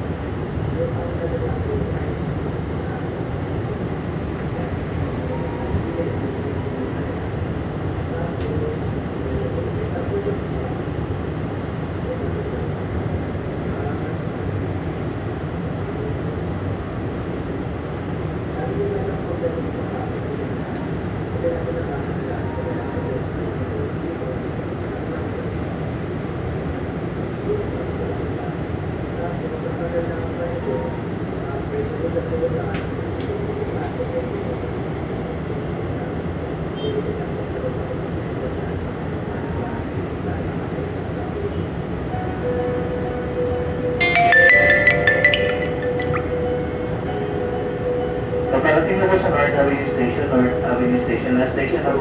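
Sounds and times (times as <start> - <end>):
train car low rumble: 0.0 - 52.0.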